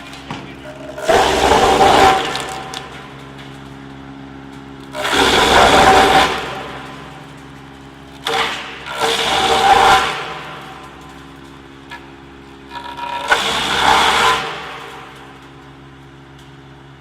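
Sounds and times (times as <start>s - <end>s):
wood chipping bursts: 0.0s - 3.7s, 4.8s - 15.4s
wood chipper humming: 0.0s - 17.0s.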